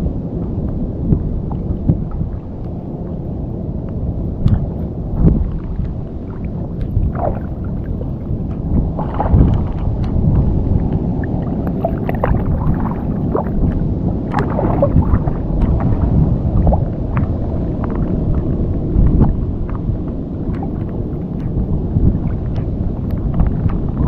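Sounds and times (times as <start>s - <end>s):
wind buffeting microphone: 0.0s - 24.0s
small water splashes and ticks: 0.3s - 24.0s.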